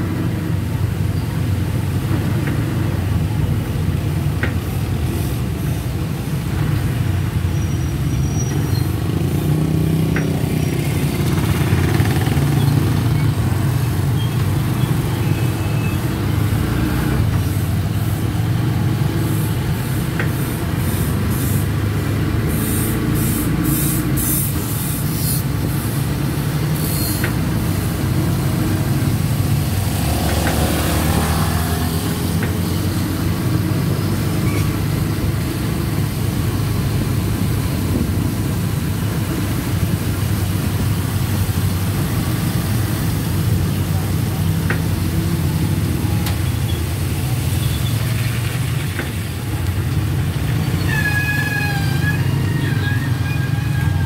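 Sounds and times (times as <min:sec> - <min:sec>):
road noise on wet street: 0:00.0 - 0:54.0
vehicle engine drone: 0:00.0 - 0:54.0.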